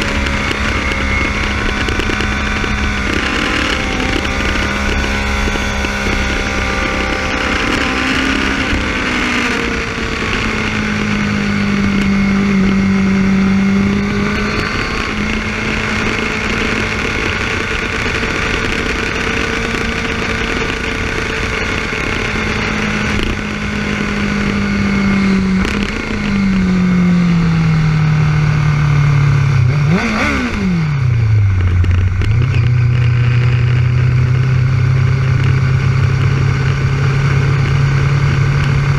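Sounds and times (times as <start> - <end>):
motorcycle engine at speed: 0.0 - 38.9.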